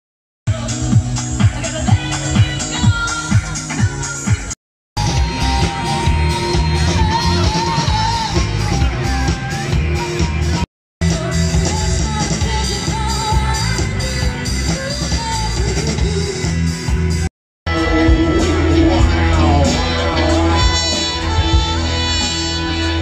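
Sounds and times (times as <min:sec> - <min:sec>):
person singing: 0:00.5 - 0:16.6, 0:17.7 - 0:23.0
live rock band playing: 0:00.5 - 0:23.0.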